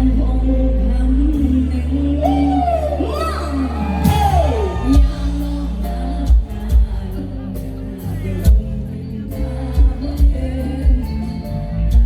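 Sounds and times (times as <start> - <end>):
live band instrumental: 0.0 - 12.0.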